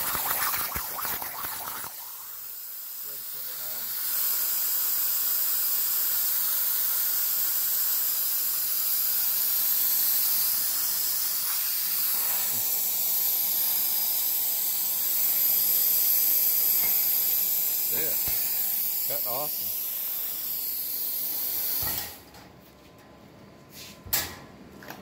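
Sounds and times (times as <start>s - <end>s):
plasma torch hissing: 0.0s - 22.2s.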